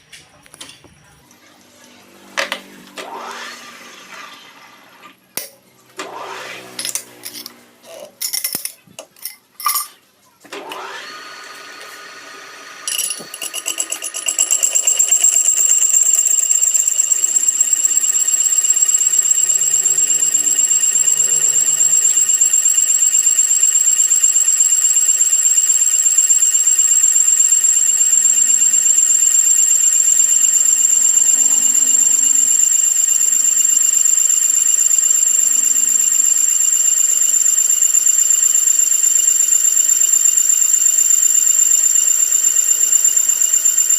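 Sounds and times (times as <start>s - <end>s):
metal-cutting machine whining: 2.4s - 4.6s, 10.6s - 43.9s.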